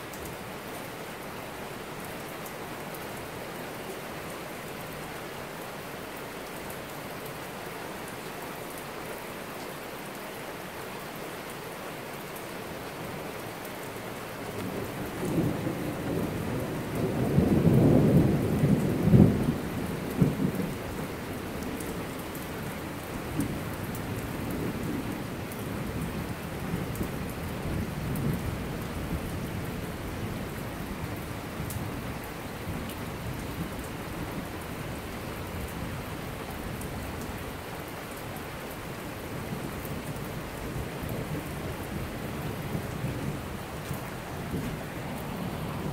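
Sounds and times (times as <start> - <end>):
rain on paved street: 0.0 - 45.9.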